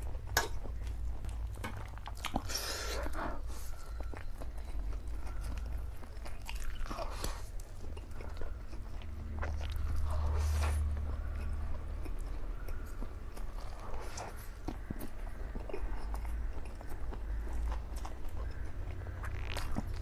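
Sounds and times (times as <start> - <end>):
chewing mouth clicks: 0.5 - 20.0.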